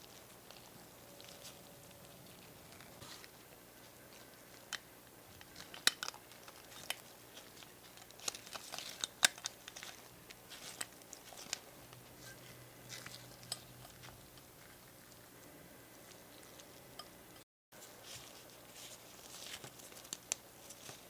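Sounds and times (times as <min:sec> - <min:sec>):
light crinkling: 0:00.0 - 0:21.0.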